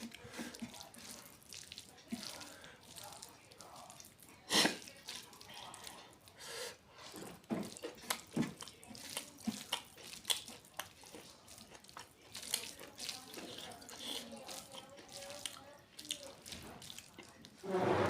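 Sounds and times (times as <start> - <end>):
wet lip-smacking and chewing: 0.0 - 17.6.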